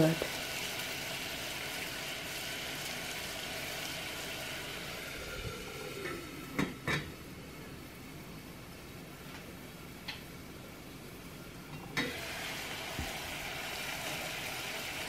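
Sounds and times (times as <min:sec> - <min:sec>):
sugar syrup boiling and sizzling: 0:00.0 - 0:15.0.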